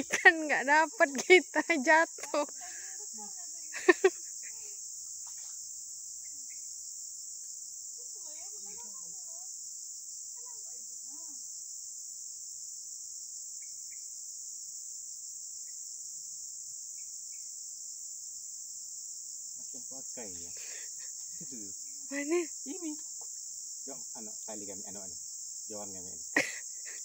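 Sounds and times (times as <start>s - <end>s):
insect chorus shrilling: 0.0s - 27.0s.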